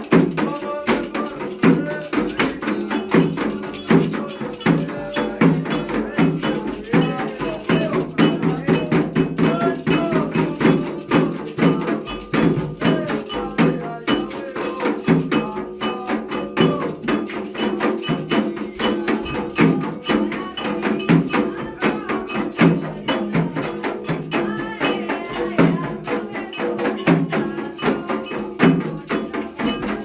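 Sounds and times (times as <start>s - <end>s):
hand drums: 0.0s - 30.0s
struck bell rhythm: 0.0s - 30.0s
voices singing: 0.0s - 30.0s.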